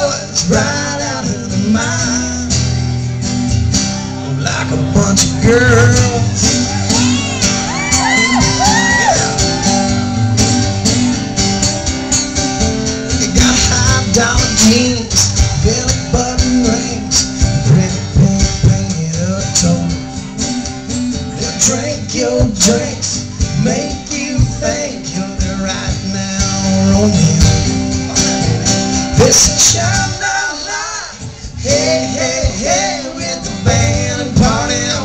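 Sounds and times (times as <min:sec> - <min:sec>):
man singing: 0:00.0 - 0:02.9, 0:04.2 - 0:09.9, 0:13.0 - 0:35.0
acoustic guitars strummed: 0:00.0 - 0:35.0.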